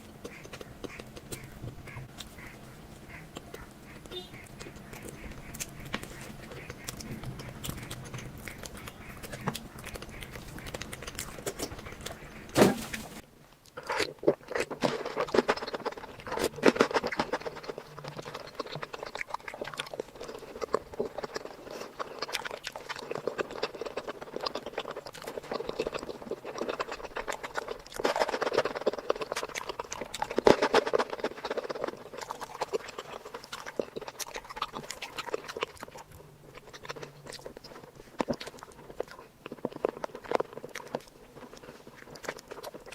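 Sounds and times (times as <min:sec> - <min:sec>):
chewing sweets: 0:00.0 - 0:42.9.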